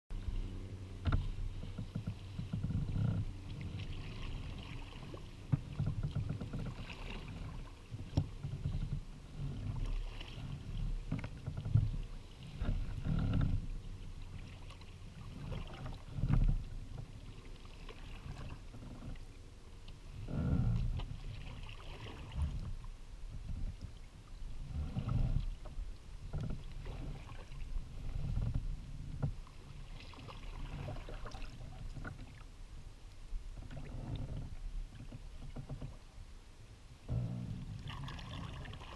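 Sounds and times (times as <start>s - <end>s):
paddle blades splashing: 0.1s - 38.9s
water washing along hull: 0.1s - 38.9s.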